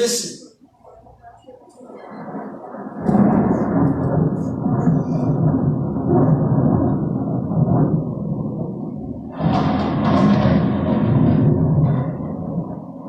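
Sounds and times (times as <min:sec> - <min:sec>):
deep rumble of thunder: 0:00.9 - 0:13.0.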